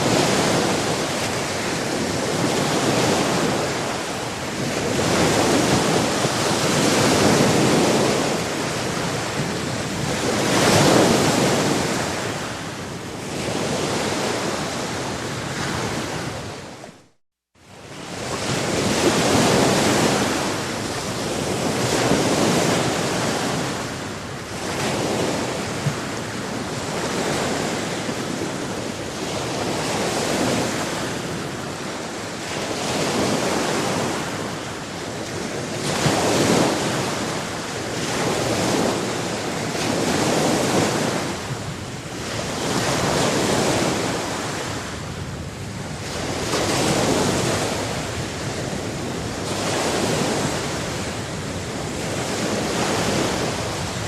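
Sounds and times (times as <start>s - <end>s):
wind noise: 0.0s - 17.1s, 17.7s - 54.0s
sea waves breaking on shore: 0.0s - 54.0s.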